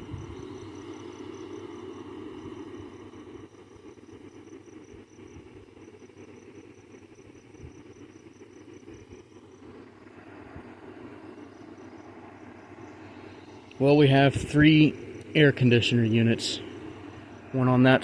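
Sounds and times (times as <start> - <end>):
air conditioner humming: 0.0 - 18.0
insects chirping: 0.0 - 18.0.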